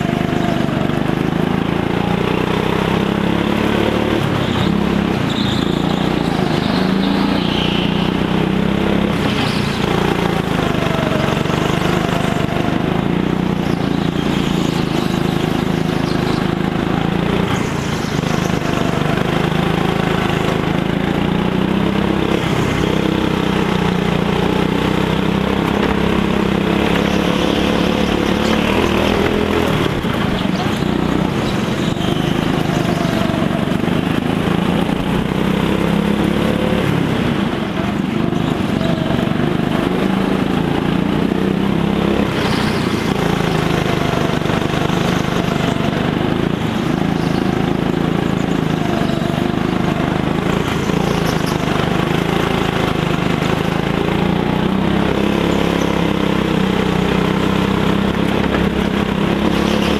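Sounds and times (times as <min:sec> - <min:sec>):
go-kart engine: 0:00.0 - 0:59.9.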